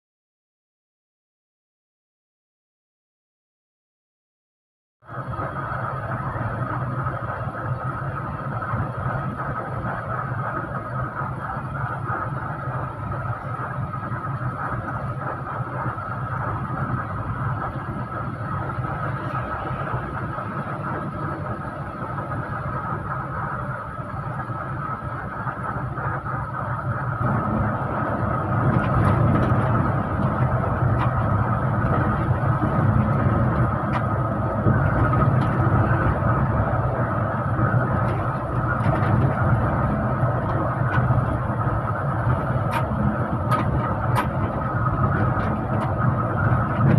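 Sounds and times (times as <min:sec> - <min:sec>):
bus engine and road drone: 0:05.0 - 0:46.9
high whine: 0:05.0 - 0:46.9.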